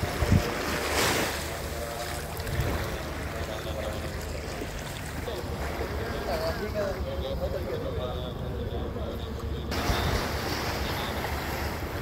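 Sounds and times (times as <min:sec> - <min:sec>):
sea surf washing ashore: 0:00.0 - 0:12.0.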